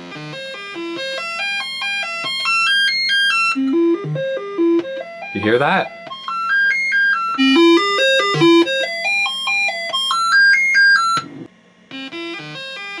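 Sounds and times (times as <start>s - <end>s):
electronic chiptune melody: 0.1s - 11.3s.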